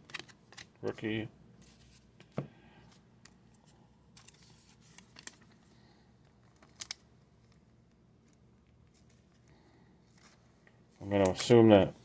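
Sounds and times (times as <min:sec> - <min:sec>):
trading cards rustling and clicking: 0:00.0 - 0:11.9.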